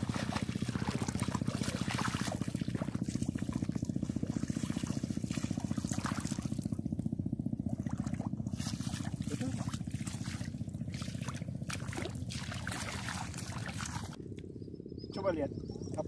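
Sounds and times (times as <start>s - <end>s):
feet splashing in water: 0.0s - 6.7s, 7.7s - 14.2s
low pulsing hum: 0.0s - 16.0s.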